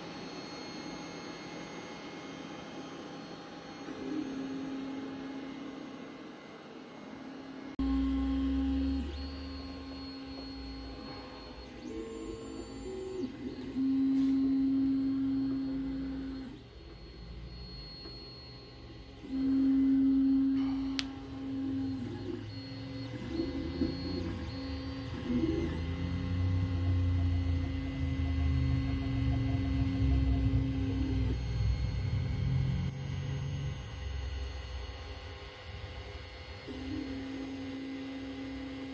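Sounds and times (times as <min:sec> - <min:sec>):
printer stepper motors whining: 0:00.0 - 0:38.9
faint hum: 0:00.1 - 0:38.9.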